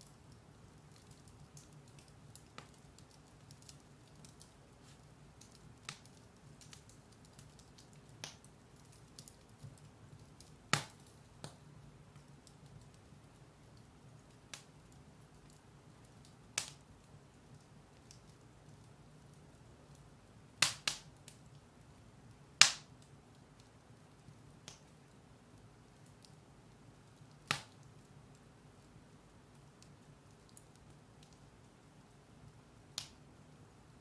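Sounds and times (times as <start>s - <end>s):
firewood crackling and popping: 0.0s - 34.0s
low steady hiss of fire: 0.0s - 34.0s.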